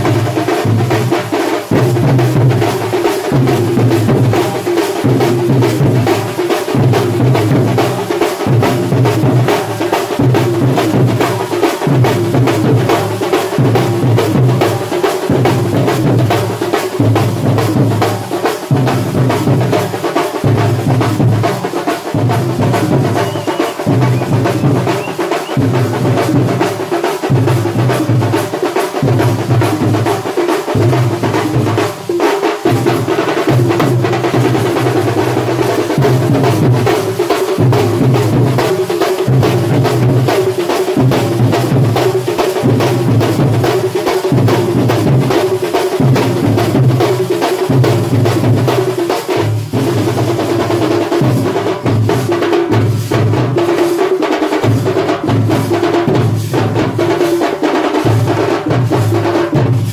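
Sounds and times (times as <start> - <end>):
heavy bass drum beats: 0.0 - 59.9
percussion troupe drumming: 0.0 - 59.9.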